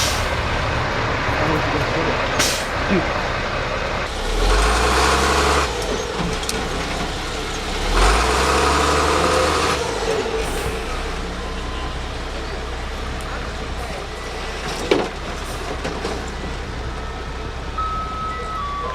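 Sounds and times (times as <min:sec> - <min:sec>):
tow truck engine running: 0:00.0 - 0:18.9.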